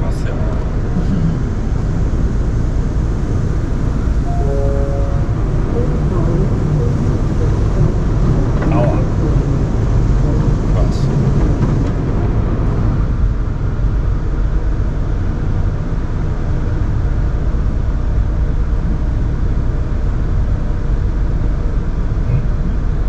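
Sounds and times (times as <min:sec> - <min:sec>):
deep rumble: 0:00.0 - 0:23.0.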